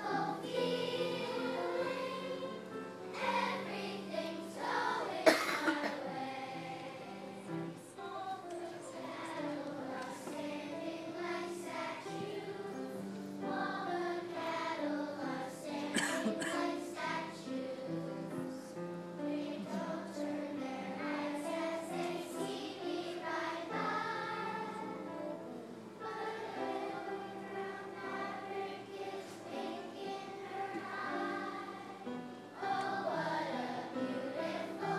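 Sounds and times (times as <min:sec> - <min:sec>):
children's choir singing: 0:00.0 - 0:34.9.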